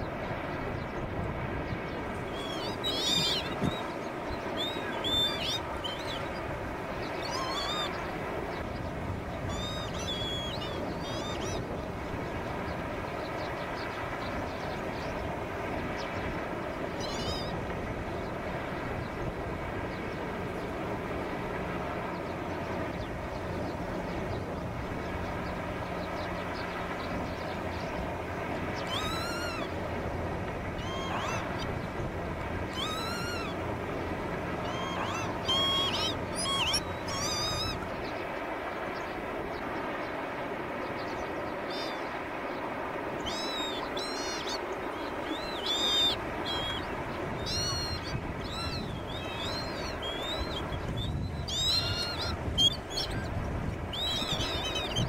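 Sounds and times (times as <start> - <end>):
droning hum: 0.0 - 55.0.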